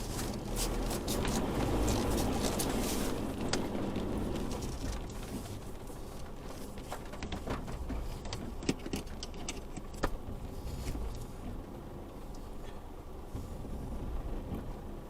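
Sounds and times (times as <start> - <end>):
pickup truck in-cab rumble: 0.0 - 15.0.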